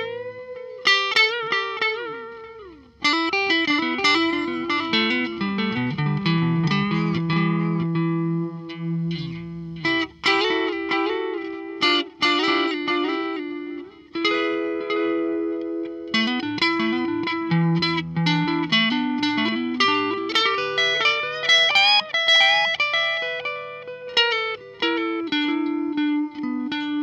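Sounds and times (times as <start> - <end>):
electric guitar with tape delay: 0.0 - 27.0.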